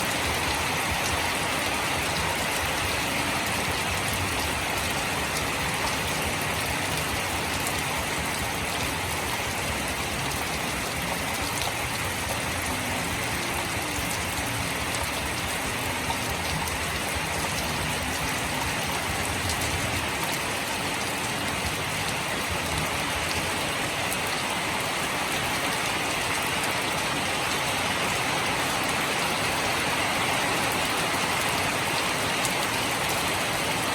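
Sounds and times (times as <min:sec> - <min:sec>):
rain pattering on surfaces: 0:00.0 - 0:33.9.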